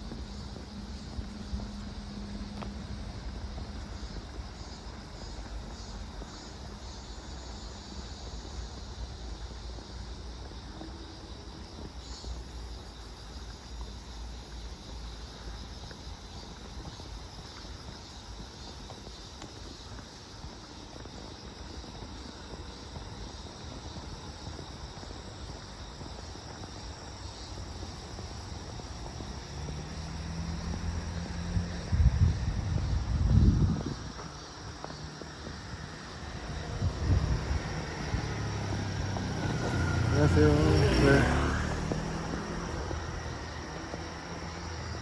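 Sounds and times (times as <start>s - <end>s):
insects chirring: 0.0s - 45.0s.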